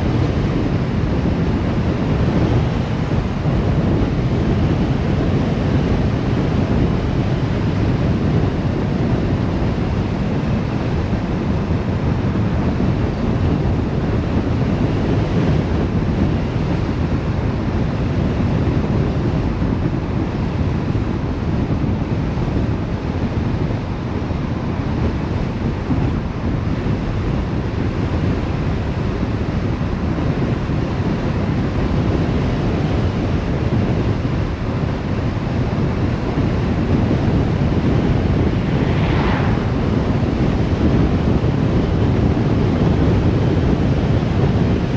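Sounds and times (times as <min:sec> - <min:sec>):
car road and wind noise: 0:00.0 - 0:44.9.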